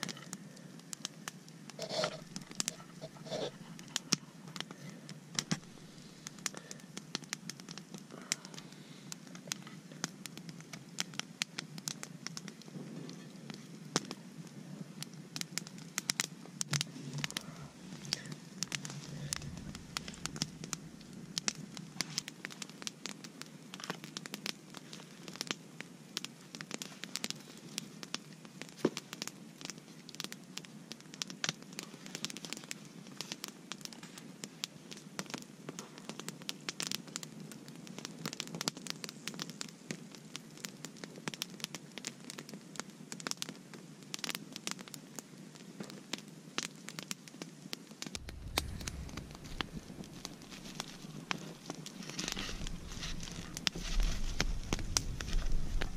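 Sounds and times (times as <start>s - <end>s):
campfire crackling and popping: 0.0s - 55.9s
low fire hiss: 0.0s - 55.9s.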